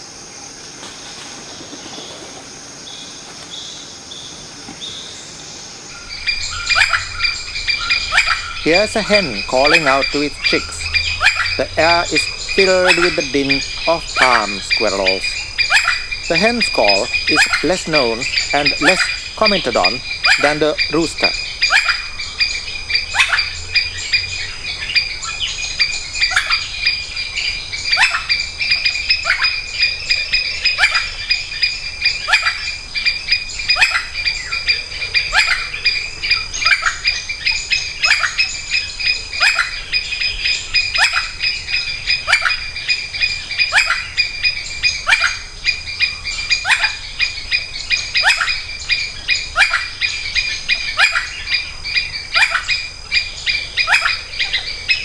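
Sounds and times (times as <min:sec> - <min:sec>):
junglefowl hen calling: 0:05.9 - 0:27.0, 0:27.9 - 0:38.6, 0:39.4 - 0:55.0
squirrels chattering: 0:05.9 - 0:55.0.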